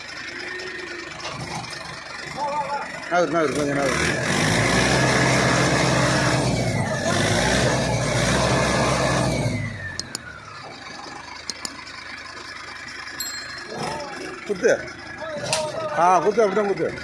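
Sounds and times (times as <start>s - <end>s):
tractor diesel engine revving: 0.0s - 17.0s.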